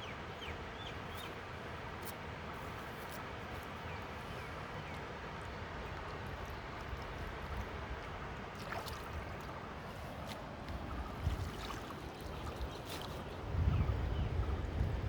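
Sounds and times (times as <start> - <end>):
water trickling and splashing: 2.0 - 15.0.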